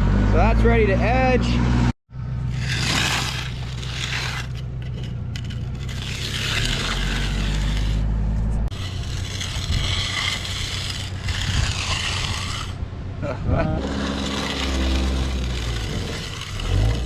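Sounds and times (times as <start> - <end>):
engine running: 0.0 - 11.0, 12.7 - 17.0
steel tool scraping concrete: 2.5 - 12.8, 13.6 - 17.0.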